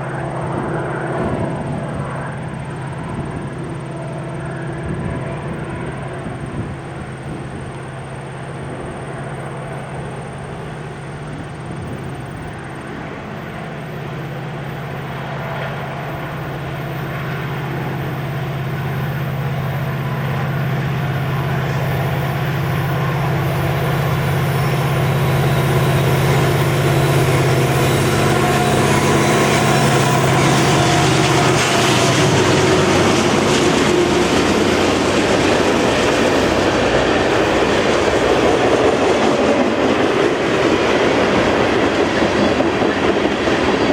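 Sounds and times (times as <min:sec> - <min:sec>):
diesel locomotive engine drone: 0:00.0 - 0:43.9
train wheels on rails: 0:00.0 - 0:43.9.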